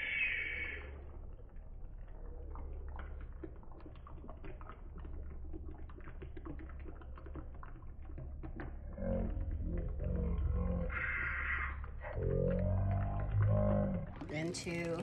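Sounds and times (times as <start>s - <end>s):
steady low hum: 0.0s - 15.0s
liquid drips and clicks: 0.1s - 15.0s.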